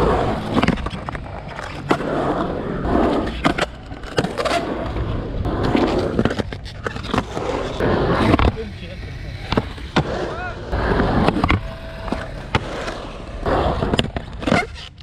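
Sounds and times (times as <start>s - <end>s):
skateboard clacks: 0.0s - 15.0s
skateboard wheels rolling on concrete: 0.0s - 15.0s.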